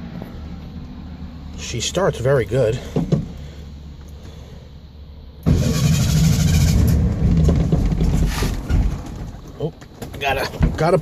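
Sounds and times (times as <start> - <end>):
car engine starting and running: 0.0 - 10.4.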